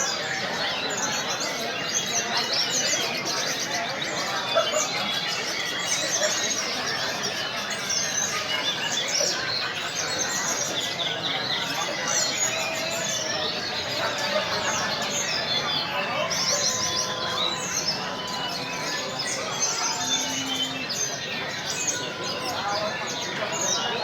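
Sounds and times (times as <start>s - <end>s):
murmur of crowd voices: 0.0s - 24.0s
songbirds singing in chorus: 0.0s - 24.0s.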